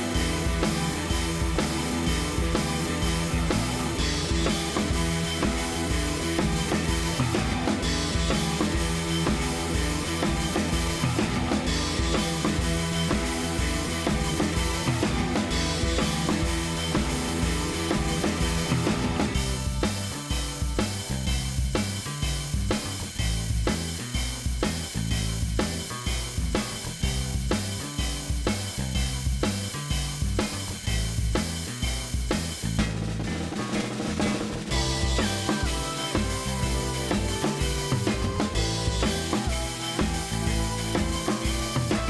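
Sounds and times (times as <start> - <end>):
drum kit beat: 0.0 - 42.0.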